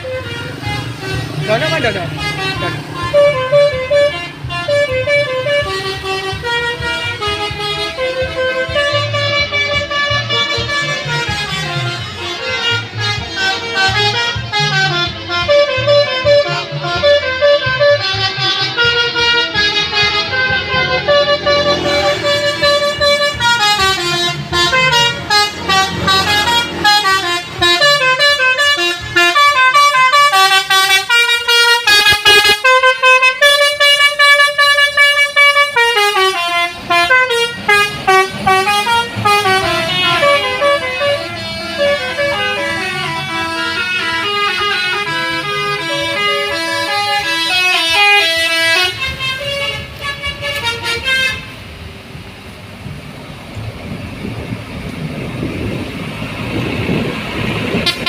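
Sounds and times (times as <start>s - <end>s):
bus horns playing tunes: 0.0s - 51.9s, 55.4s - 58.0s.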